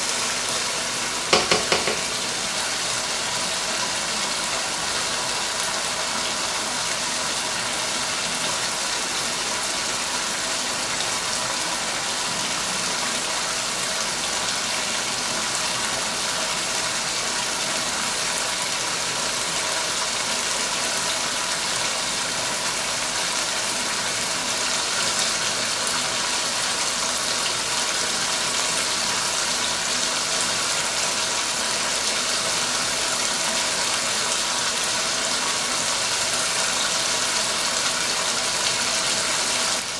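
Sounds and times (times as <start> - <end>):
gravy sizzling in a pan: 0.0 - 39.9.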